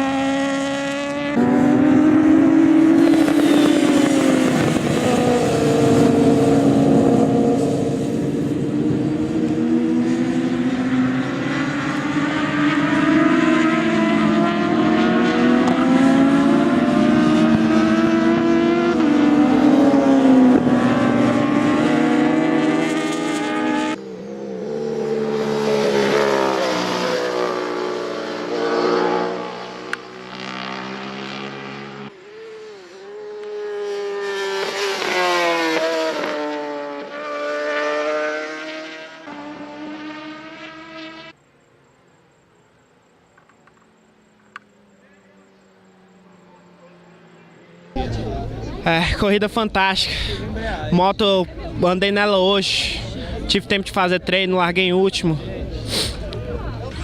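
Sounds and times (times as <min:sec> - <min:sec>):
racing motorcycle engines revving: 0:00.0 - 0:41.9, 0:43.0 - 0:57.0.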